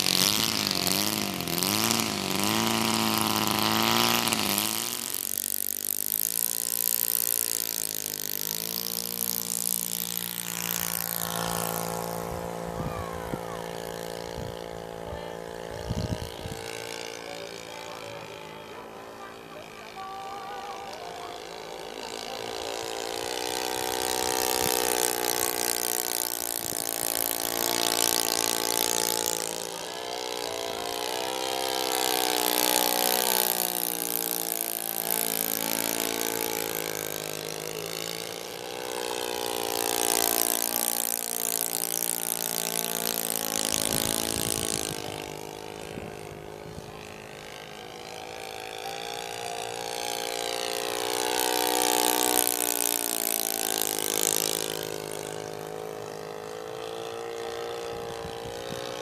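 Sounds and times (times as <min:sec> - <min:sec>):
model airplane engine buzzing: 0:00.0 - 0:59.0.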